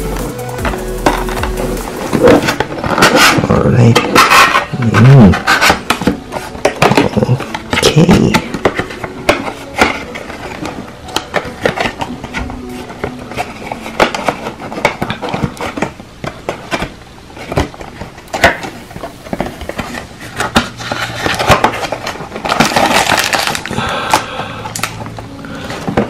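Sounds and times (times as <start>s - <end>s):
card packs rustling and crinkling: 0.0s - 26.0s.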